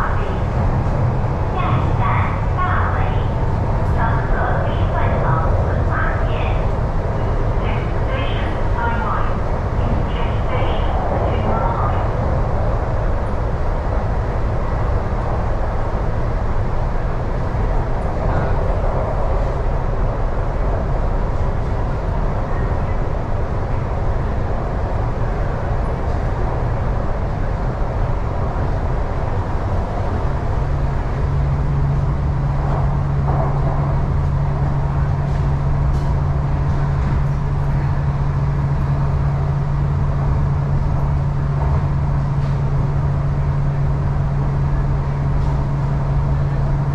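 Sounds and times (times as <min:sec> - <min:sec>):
steady low hum: 0:00.0 - 0:46.9
train wheels rumbling: 0:00.0 - 0:46.9.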